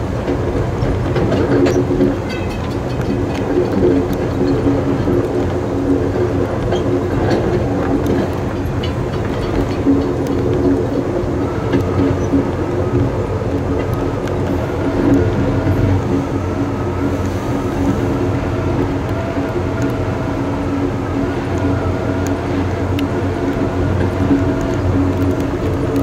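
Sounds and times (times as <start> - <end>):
train rumble and hum: 0.0 - 26.0.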